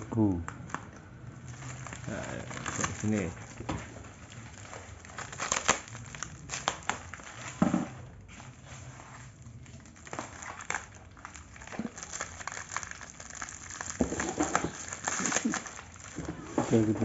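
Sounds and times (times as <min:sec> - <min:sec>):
packaging rustling and crinkling: 0:00.7 - 0:17.0.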